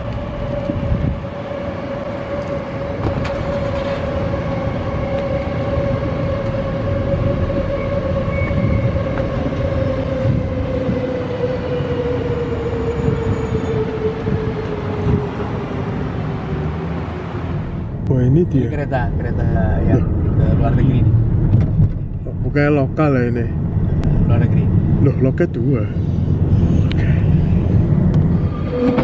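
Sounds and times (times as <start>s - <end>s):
electric train rumbling past: 0.0s - 29.0s
train whine: 0.0s - 29.0s.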